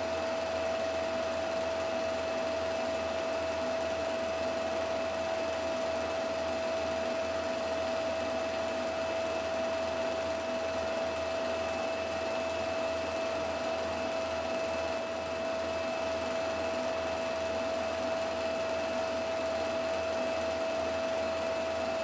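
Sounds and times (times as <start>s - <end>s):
film projector whirring: 0.0s - 22.0s.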